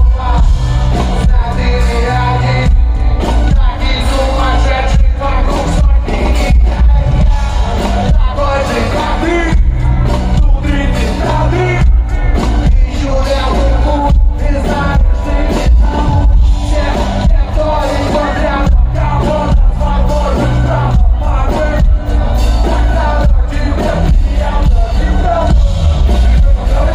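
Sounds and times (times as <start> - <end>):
hip-hop music with heavy bass: 0.0 - 26.9
vocal over beat: 0.0 - 26.9.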